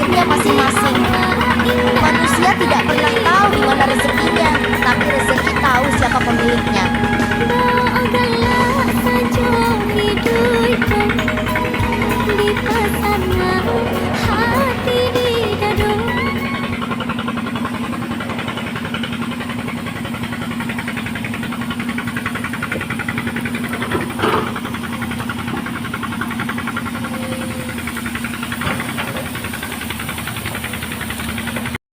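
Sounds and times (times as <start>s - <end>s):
excavator diesel engine running: 0.0s - 31.8s.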